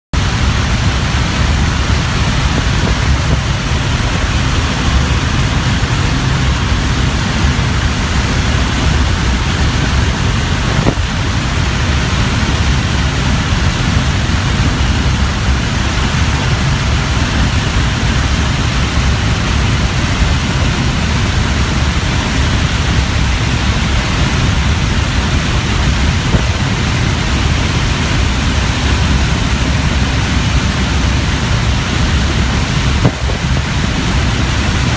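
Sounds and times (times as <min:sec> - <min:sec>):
propeller plane engine: 0:00.1 - 0:34.9
wind rush through open door: 0:00.2 - 0:34.9.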